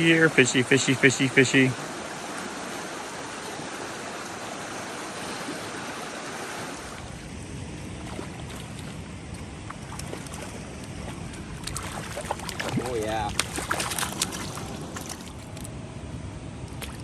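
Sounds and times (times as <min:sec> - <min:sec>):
river water rushing: 0:00.0 - 0:15.6.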